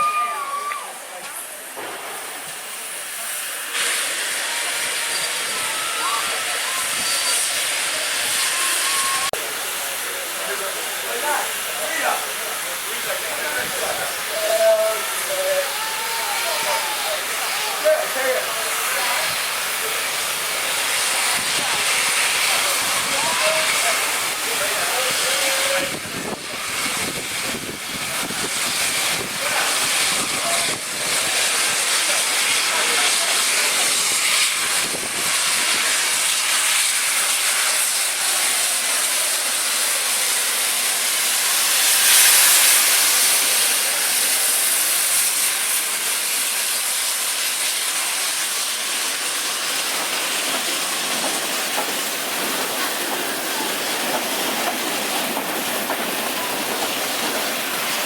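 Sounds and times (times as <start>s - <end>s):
steam locomotive hissing: 0.0s - 58.0s.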